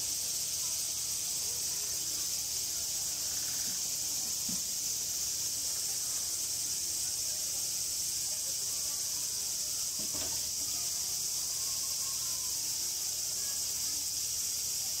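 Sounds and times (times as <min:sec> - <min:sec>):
insect chorus shrilling: 0:00.0 - 0:15.0.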